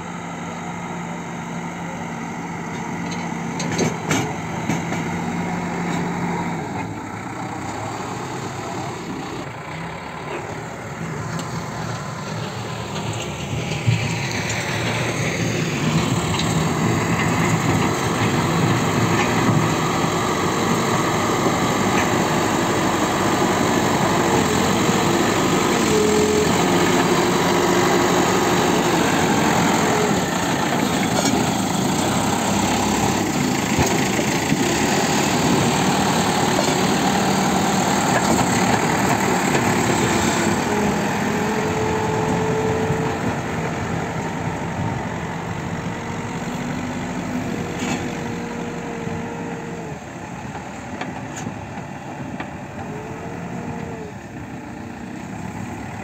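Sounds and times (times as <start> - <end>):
backhoe diesel engine under load: 0.0 - 56.0
tractor engine running: 0.0 - 56.0.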